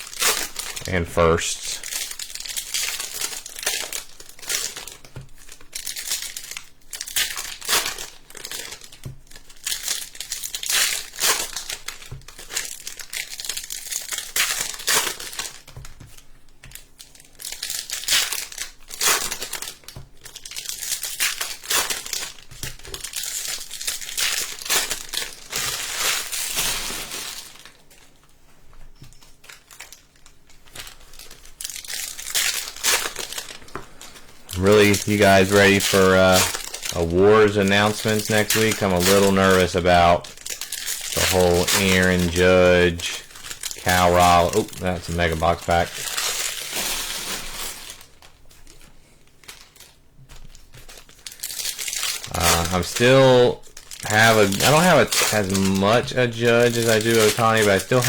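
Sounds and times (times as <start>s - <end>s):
foil wrappers tearing and crinkling: 0.0s - 28.4s, 29.0s - 58.0s.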